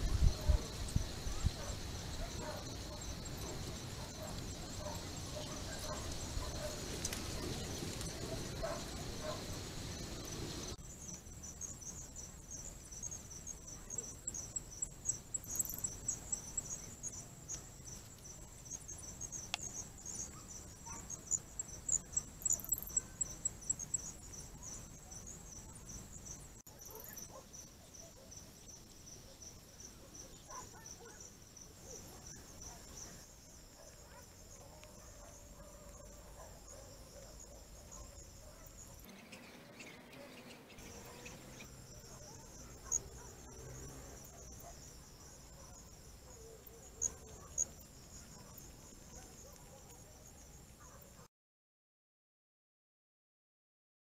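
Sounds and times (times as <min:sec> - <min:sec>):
insects trilling: 0:00.0 - 0:51.2.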